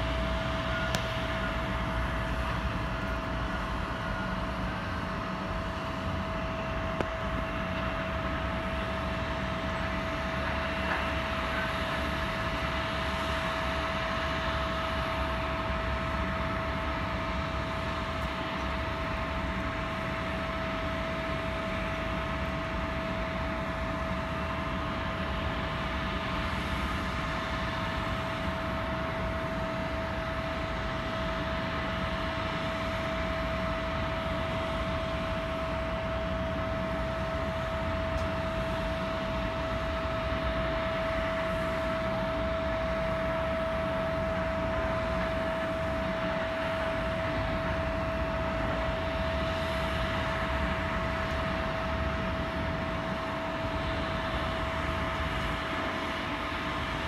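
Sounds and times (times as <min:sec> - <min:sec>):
aircraft engine drone: 0:00.0 - 0:57.0
high-pitched whine: 0:00.0 - 0:57.0.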